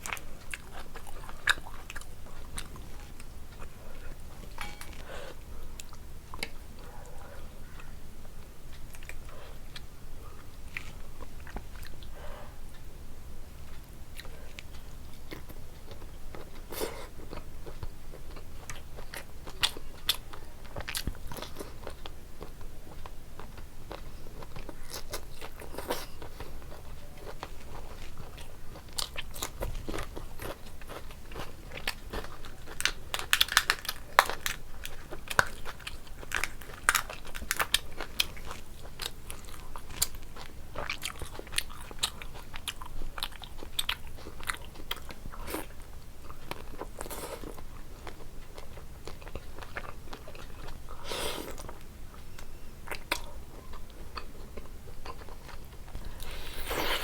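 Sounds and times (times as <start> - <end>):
person chewing crunchy food: 0.0 - 12.9, 13.6 - 57.0.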